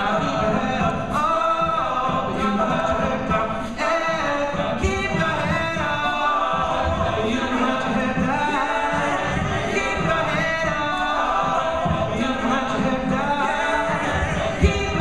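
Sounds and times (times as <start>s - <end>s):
male a cappella group singing: 0.0s - 15.0s.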